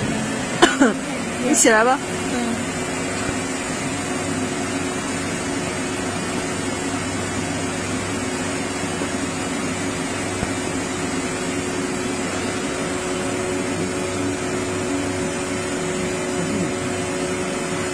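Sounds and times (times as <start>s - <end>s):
router machine humming: 0.0s - 17.9s.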